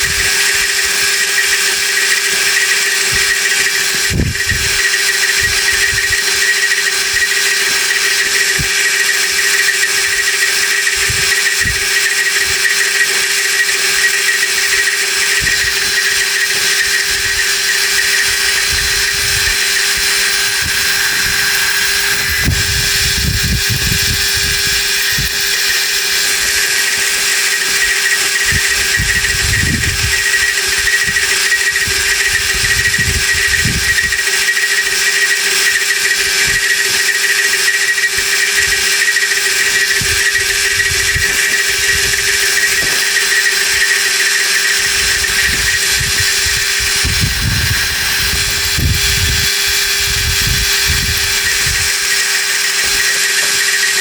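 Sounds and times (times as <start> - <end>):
power tool motor whining: 0.0 - 54.0.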